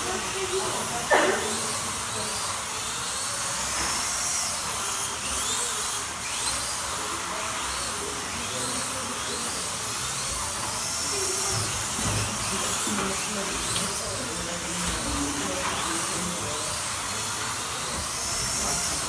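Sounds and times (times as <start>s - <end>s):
slot car motors whining: 0.0s - 19.0s.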